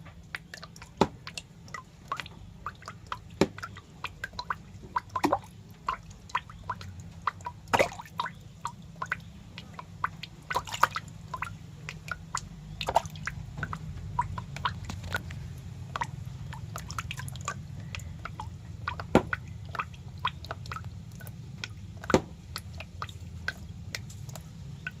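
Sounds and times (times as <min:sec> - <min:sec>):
steady low hum: 0:00.0 - 0:25.0
wet clicks and drip-like ticks: 0:00.0 - 0:25.0.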